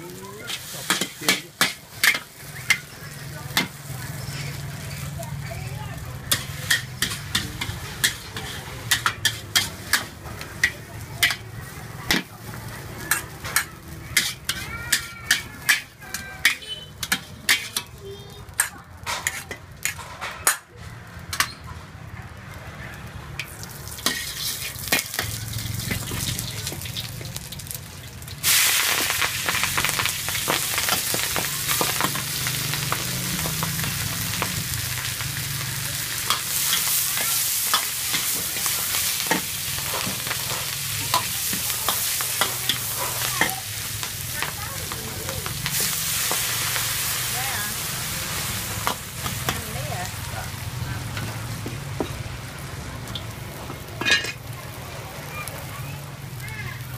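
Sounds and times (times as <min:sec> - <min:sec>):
vegetables sizzling in a wok: 0:00.0 - 0:56.9.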